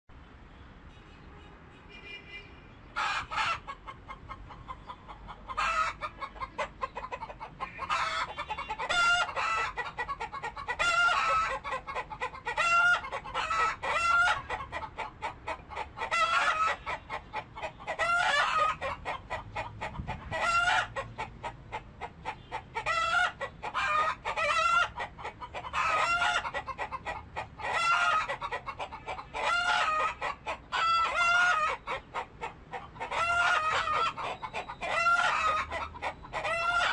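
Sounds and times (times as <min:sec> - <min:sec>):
chickens clucking: 0:02.9 - 0:36.9.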